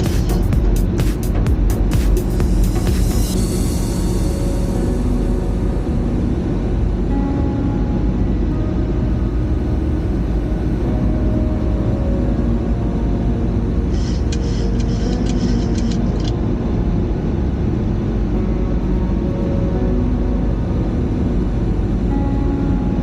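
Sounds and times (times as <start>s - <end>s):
airflow and engine noise: 0.0s - 23.0s.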